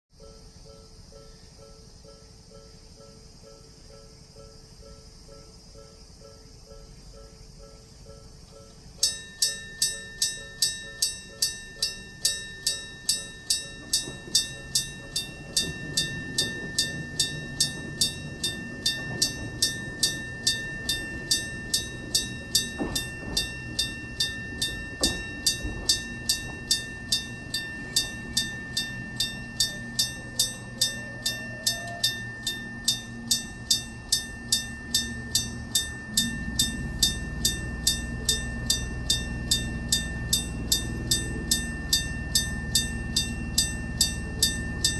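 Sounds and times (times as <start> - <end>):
train low rumble: 0.1 - 44.9
level crossing bell ringing: 6.8 - 44.9.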